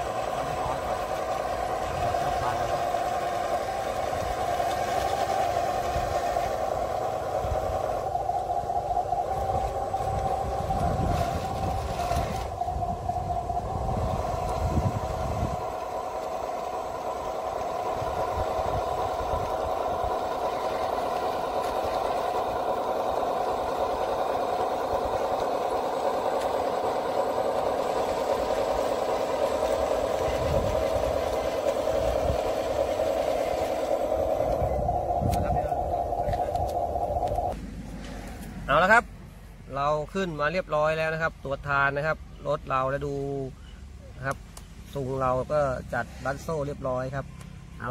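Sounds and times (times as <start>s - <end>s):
model tractor engine drone: 0.0s - 42.0s.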